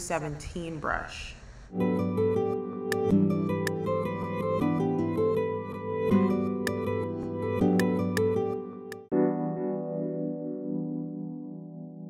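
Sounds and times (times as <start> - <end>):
soft instrumental music: 1.7 - 12.0.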